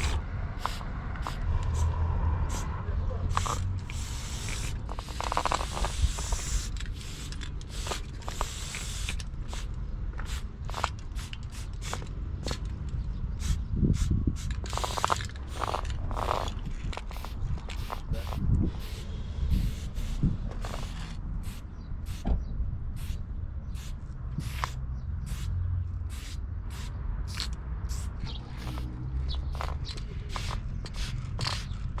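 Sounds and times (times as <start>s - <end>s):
spray can hissing: 0.0s - 2.7s, 3.3s - 12.6s, 13.4s - 22.2s, 23.0s - 23.2s, 23.8s - 25.5s, 26.1s - 28.9s, 29.5s - 31.8s.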